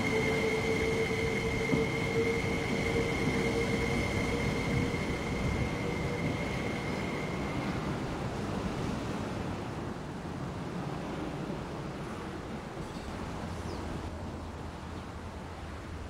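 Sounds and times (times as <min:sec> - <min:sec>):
electric train rolling past: 0:00.0 - 0:16.0.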